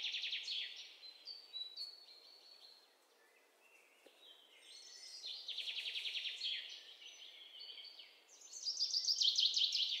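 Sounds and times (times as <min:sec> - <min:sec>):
small birds singing: 0:00.0 - 0:10.0.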